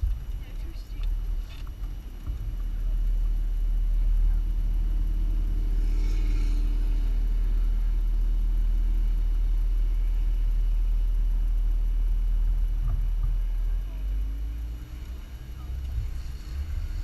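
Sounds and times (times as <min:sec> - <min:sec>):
car engine running while driving: 0:00.0 - 0:17.0.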